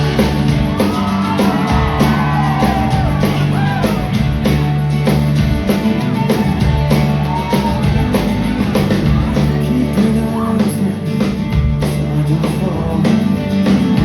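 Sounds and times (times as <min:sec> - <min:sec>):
drum kit beat: 0:00.0 - 0:14.0
rock band playing: 0:00.0 - 0:14.0.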